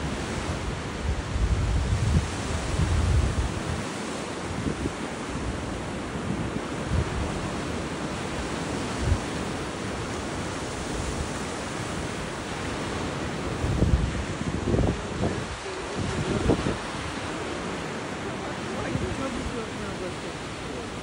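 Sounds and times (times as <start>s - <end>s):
waves breaking on beach: 0.0s - 21.0s
wind buffets on microphone: 0.0s - 21.0s.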